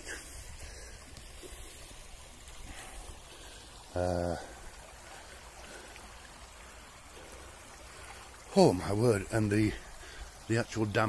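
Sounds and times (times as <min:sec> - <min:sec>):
stream rushing and rippling: 0:00.0 - 0:11.0.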